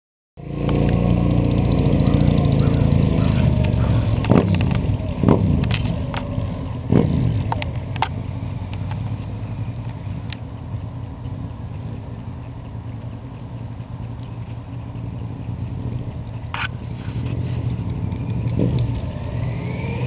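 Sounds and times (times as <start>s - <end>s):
motorcycle accelerating away: 0.4s - 20.0s
sharp throttle blips: 0.4s - 20.0s.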